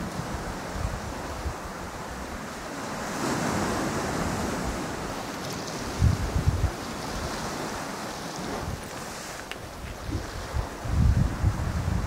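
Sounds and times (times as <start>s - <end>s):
sea surf washing: 0.0s - 12.0s
wind gusts buffeting microphone: 0.0s - 12.0s.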